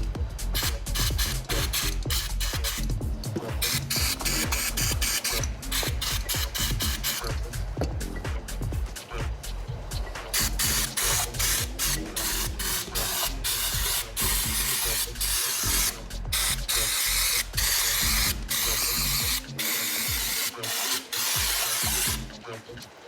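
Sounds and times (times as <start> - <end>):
spraying hiss bursts: 0.0 - 22.6
music beat: 0.0 - 23.0.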